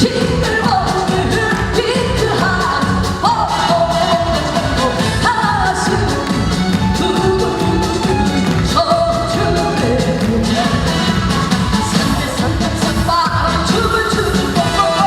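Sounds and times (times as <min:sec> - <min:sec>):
band playing a steady beat: 0:00.0 - 0:15.0
woman singing: 0:00.0 - 0:15.0.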